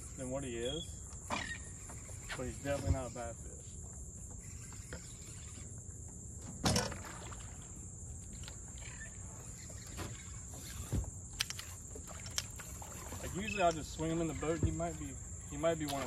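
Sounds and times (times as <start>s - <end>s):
high insect buzz: 0.0s - 16.0s.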